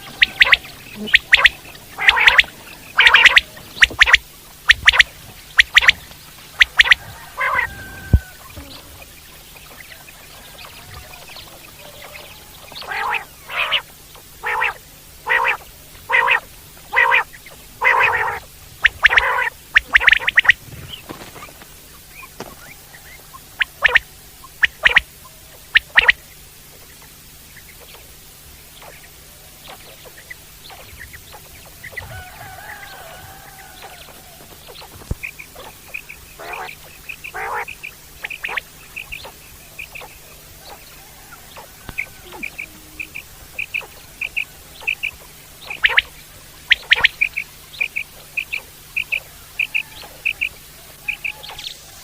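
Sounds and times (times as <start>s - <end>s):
quail calling: 0.0s - 52.0s.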